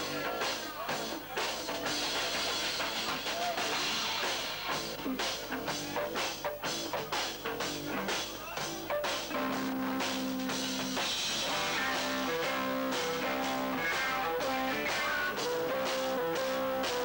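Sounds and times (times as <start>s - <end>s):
drum kit beat: 0.0s - 17.0s
electric guitars: 0.0s - 17.0s.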